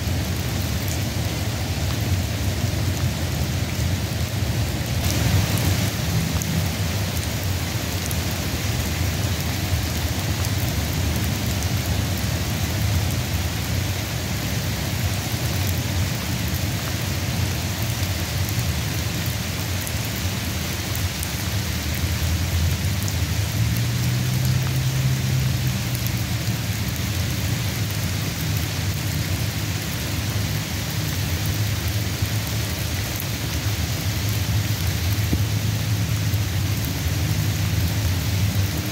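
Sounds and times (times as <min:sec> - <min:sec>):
raindrop ticks: 0:00.0 - 0:03.8, 0:04.8 - 0:38.9
constant low rumble: 0:00.0 - 0:38.9
steady rain hiss: 0:00.0 - 0:38.9.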